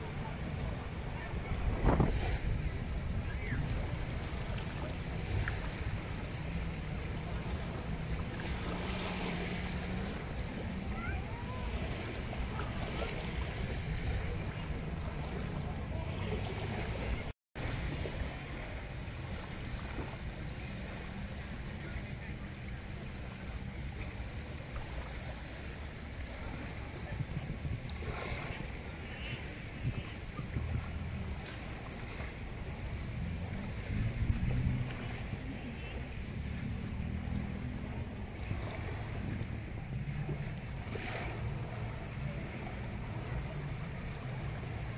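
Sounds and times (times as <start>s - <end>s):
wind on microphone: 0.0s - 44.2s
waves lapping on shore: 0.0s - 44.9s.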